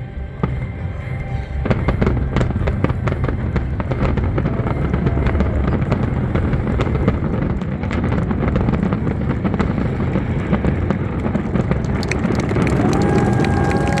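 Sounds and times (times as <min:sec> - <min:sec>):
fireworks booming and crackling: 0:00.2 - 0:14.0.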